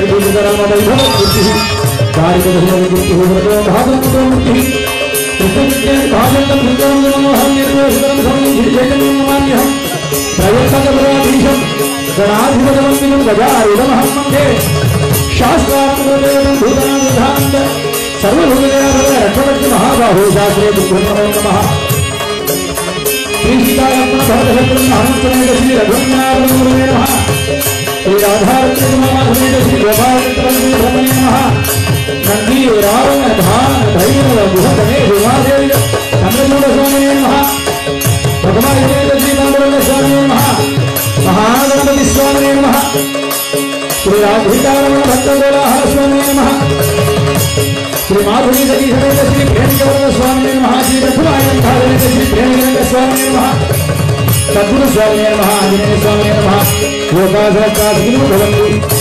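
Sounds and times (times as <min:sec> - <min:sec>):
men singing devotional chant: 0:00.0 - 0:43.1, 0:44.0 - 0:59.0
harmonium drone: 0:00.0 - 0:59.0
small hand cymbals: 0:00.2 - 0:59.0.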